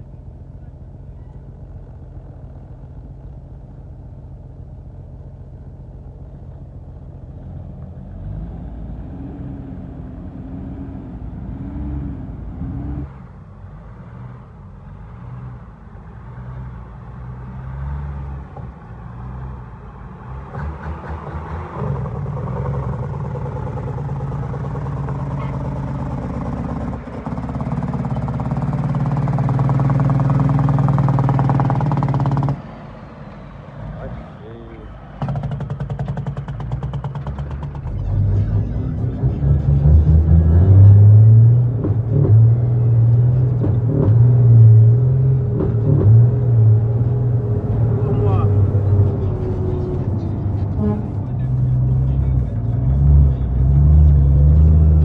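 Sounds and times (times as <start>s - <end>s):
diesel truck engine revving: 7.3s - 55.0s.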